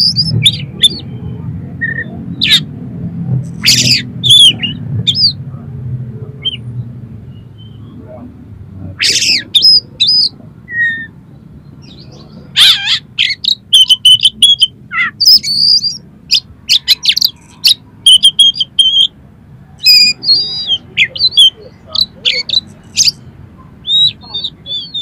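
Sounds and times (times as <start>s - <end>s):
songbird chirping and whistling: 0.0s - 2.7s, 3.6s - 5.4s, 6.4s - 6.7s, 7.3s - 8.0s, 9.0s - 19.2s, 19.8s - 25.0s.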